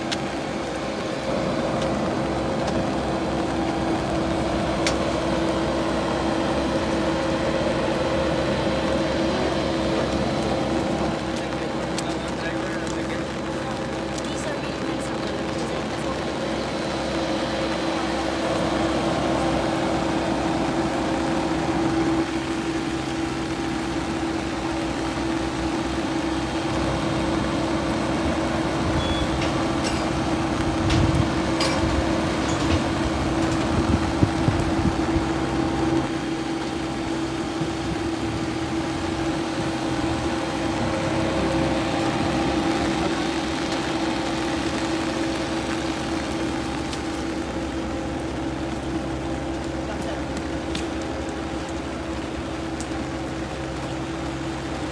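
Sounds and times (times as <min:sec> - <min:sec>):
rain: 0:00.0 - 0:54.9
turboprop aircraft engine drone: 0:00.0 - 0:54.9.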